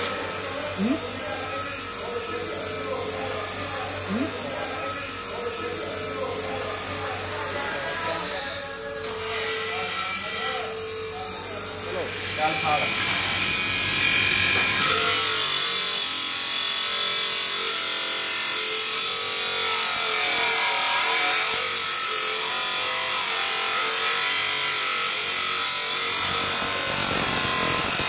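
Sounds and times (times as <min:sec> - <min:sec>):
grinder running: 0:00.0 - 0:28.0.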